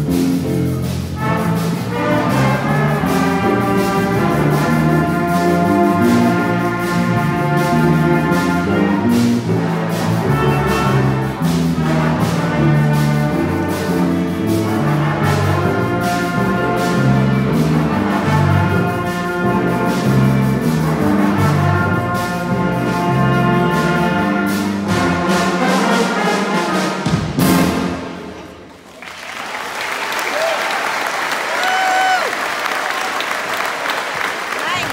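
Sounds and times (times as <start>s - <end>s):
steady drum beat: 0.0s - 28.4s
jazz band playing: 0.0s - 28.8s.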